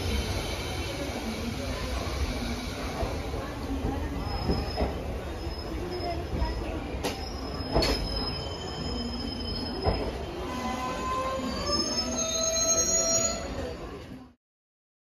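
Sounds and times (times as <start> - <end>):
train wheels squealing on rails: 0.0 - 14.2.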